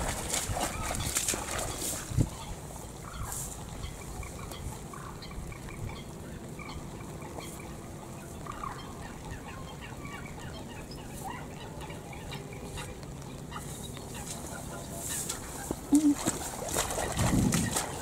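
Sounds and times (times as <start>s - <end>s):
steady rain: 1.3s - 18.0s.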